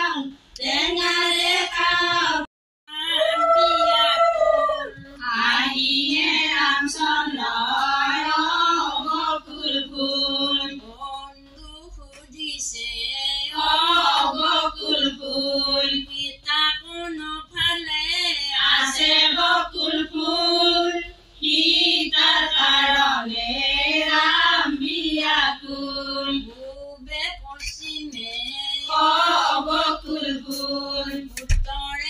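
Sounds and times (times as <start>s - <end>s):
women singing in unison: 0.0s - 32.0s.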